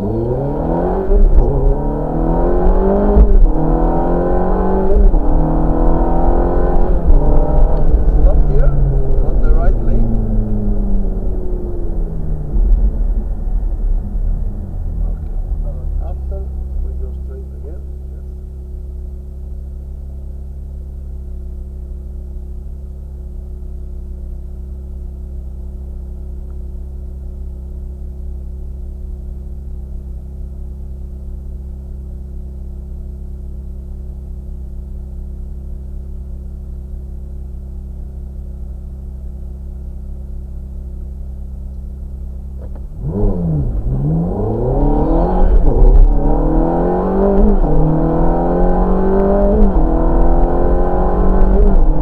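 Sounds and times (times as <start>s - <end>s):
sports car engine idling and accelerating: 0.0s - 52.0s.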